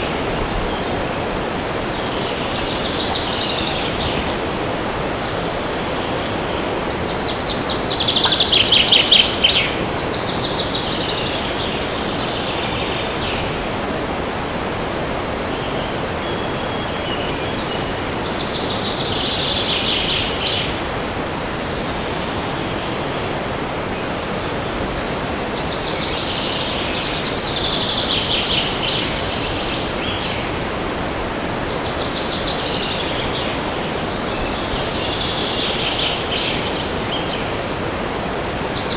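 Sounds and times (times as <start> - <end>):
songbirds trilling: 0.0 - 38.9
wind through forest: 0.0 - 38.9.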